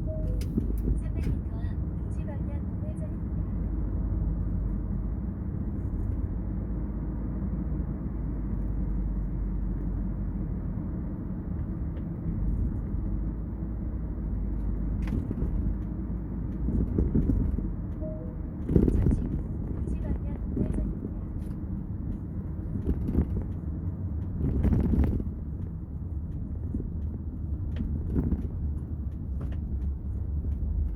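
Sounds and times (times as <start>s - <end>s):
car cabin road rumble: 0.0s - 30.9s.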